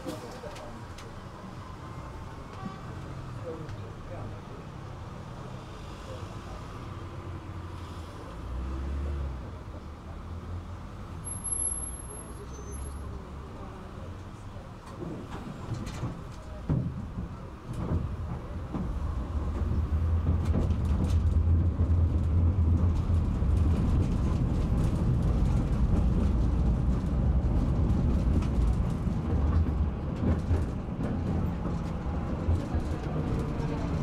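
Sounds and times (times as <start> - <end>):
tram rumbling along track: 0.0 - 34.0.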